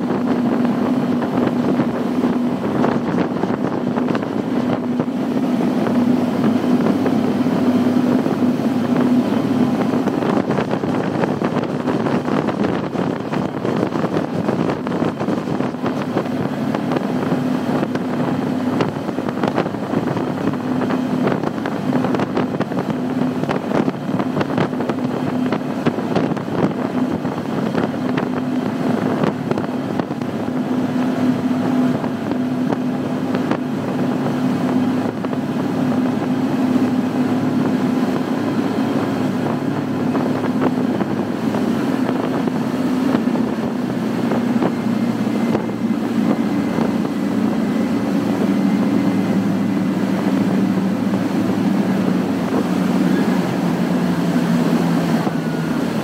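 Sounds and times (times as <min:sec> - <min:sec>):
outboard engines droning: 0:00.0 - 0:56.0
rushing water and wind: 0:00.0 - 0:56.0.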